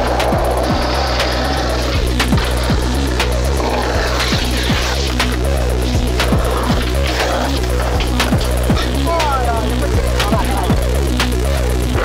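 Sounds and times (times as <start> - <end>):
beat music with snaps: 0.0 - 12.0
falling bass glides: 0.0 - 12.0.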